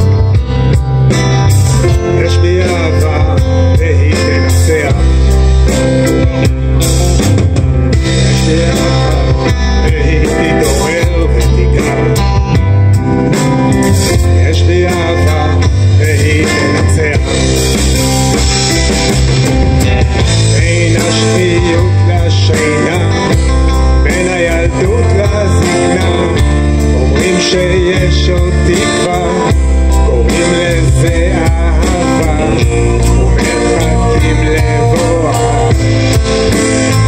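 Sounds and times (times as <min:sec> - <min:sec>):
drum kit: 0:00.0 - 0:37.0
electric guitars: 0:00.0 - 0:37.0
keyboard: 0:00.0 - 0:37.0.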